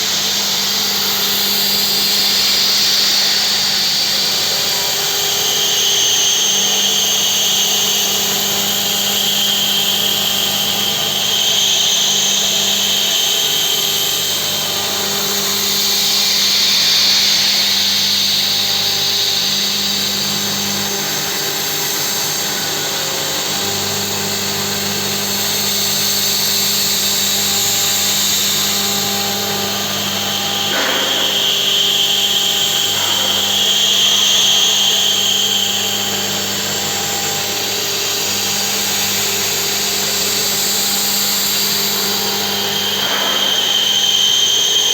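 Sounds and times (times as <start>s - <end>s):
milling machine whine: 0.0s - 44.9s.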